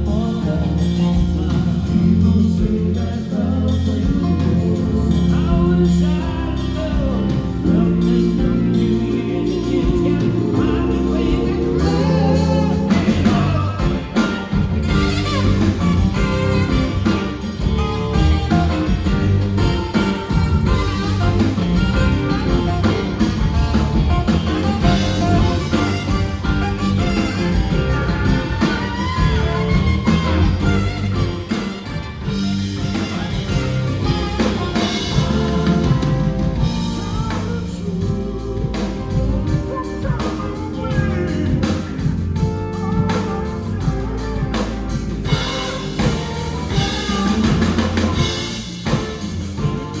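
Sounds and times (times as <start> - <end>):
drum kit: 0.0 - 50.0
guitar: 0.0 - 50.0
live band playing: 0.0 - 50.0.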